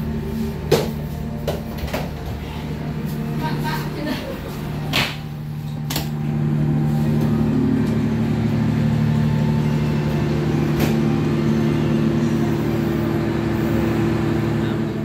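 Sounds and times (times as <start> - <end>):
train diesel engines humming: 0.0 - 15.0.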